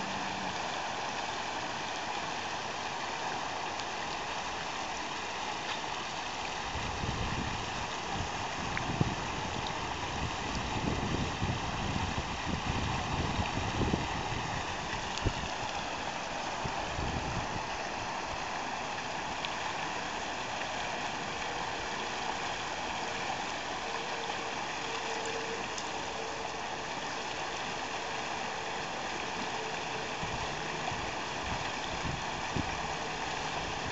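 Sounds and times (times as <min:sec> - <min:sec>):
water gushing and bubbling: 0:00.0 - 0:33.9.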